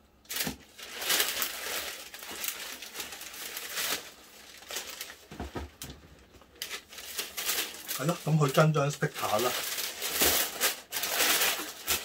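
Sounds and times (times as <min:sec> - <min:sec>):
tissue paper rustling: 0:00.3 - 0:05.6, 0:06.6 - 0:12.0.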